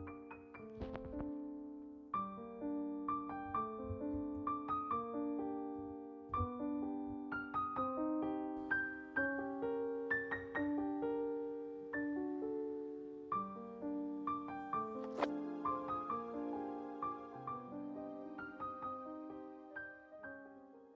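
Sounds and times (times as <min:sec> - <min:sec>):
gentle piano melody: 0:00.0 - 0:20.9.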